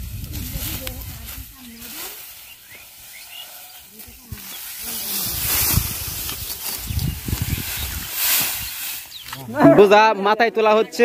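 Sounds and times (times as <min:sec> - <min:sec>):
dry straw rustling and crackling: 0:00.0 - 0:09.6.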